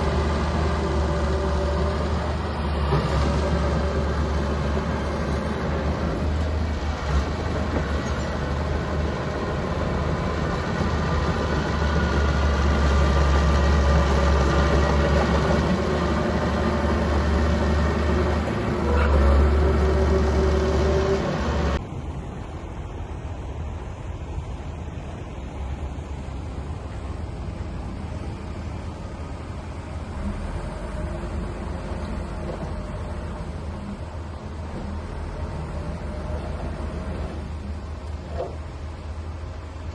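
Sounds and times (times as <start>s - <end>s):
diesel engine droning under load: 0.0s - 22.9s, 24.1s - 39.9s.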